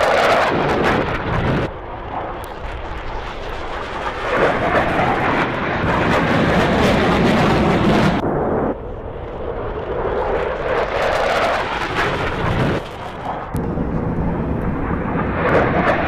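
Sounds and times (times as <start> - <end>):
jet fighter flying past: 0.0 - 16.0.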